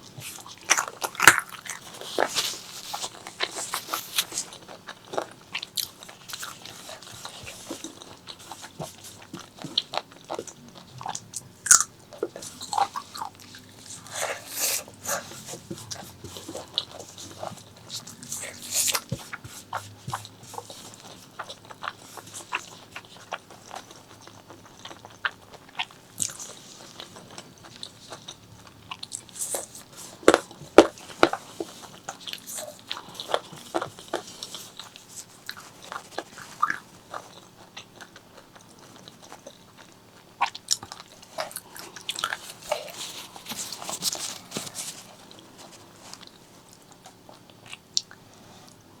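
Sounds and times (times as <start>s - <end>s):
person chewing food: 0.0s - 49.0s.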